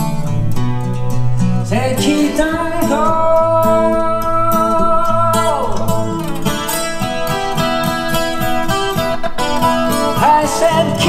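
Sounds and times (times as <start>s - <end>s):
song with guitar: 0.0s - 11.0s.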